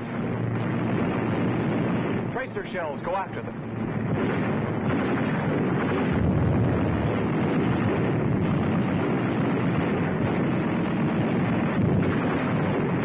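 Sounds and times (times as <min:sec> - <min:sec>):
anti-aircraft fire and explosions: 0:00.0 - 0:13.0.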